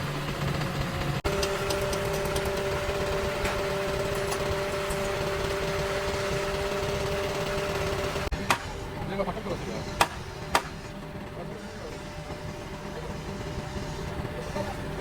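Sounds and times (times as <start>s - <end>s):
motor whining: 0.0s - 15.0s.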